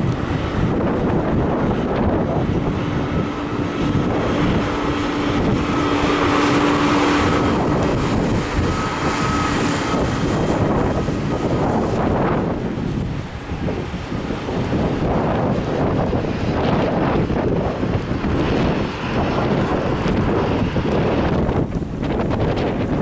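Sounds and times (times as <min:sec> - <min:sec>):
jet engines steady tone: 0:00.0 - 0:23.0
wind buffeting microphone: 0:00.0 - 0:23.0.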